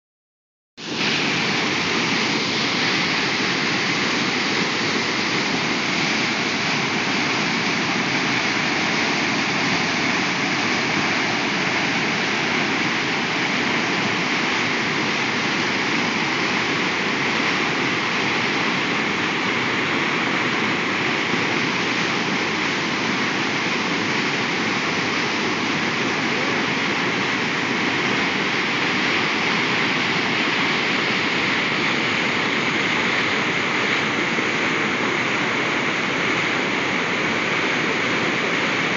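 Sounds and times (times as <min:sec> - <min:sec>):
river rushing over dam: 0:00.8 - 0:38.9.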